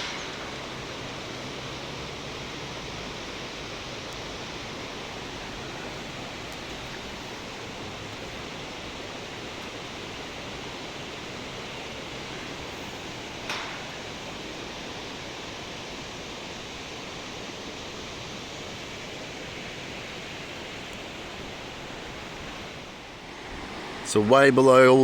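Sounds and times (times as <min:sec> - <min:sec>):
waterfall and river rushing: 0:00.0 - 0:25.0.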